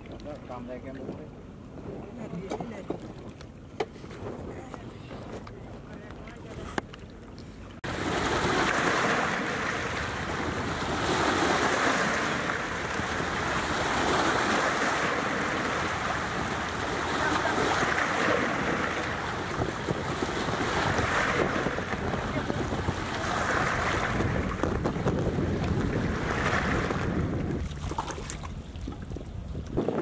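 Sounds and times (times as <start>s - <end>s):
waves splashing against boat hull: 0.0s - 30.0s
wind buffeting microphone: 4.0s - 6.8s, 7.8s - 30.0s.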